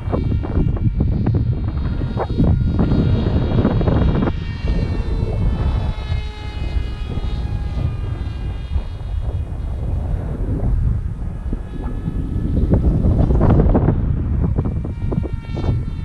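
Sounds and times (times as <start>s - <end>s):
electric motor and propeller whining: 0.0s - 16.0s
wind buffeting microphone: 0.0s - 16.0s.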